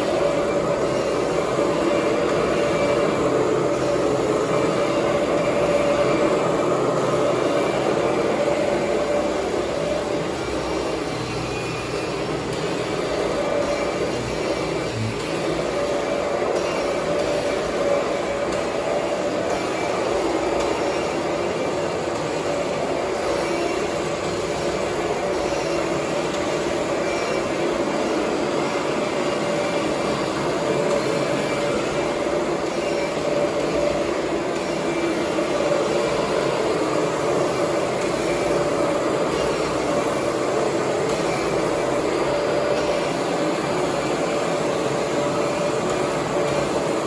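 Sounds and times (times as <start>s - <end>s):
upright vacuum cleaner running: 0.0s - 47.0s.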